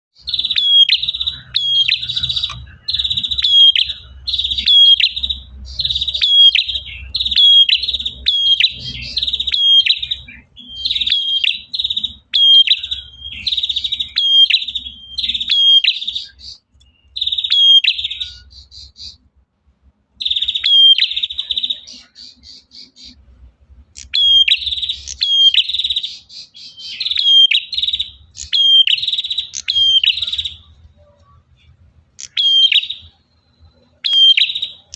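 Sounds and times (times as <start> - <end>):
bird chattering trill: 0.2 - 19.3, 20.2 - 23.2, 23.9 - 31.5, 32.1 - 34.9.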